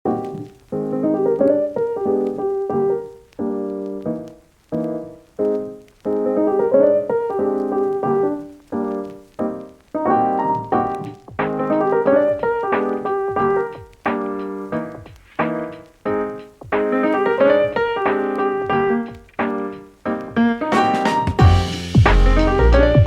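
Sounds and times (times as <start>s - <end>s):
slow piano music: 0.1s - 23.0s.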